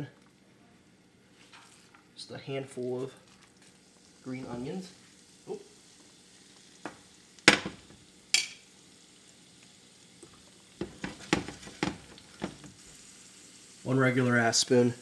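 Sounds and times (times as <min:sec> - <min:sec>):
oil crackling and popping: 0:00.0 - 0:02.2, 0:02.8 - 0:15.0
garlic and onions sizzling in oil: 0:00.0 - 0:15.0.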